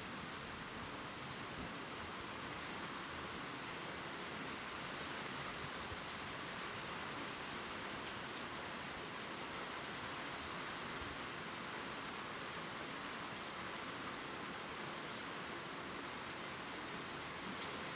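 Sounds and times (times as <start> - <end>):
rain falling on leaves: 0.0 - 17.9.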